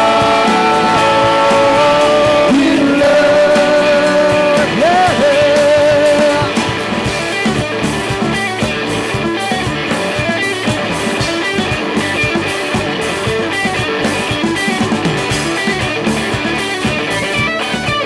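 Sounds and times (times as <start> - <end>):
guitar-led band playing: 0.0 - 18.0.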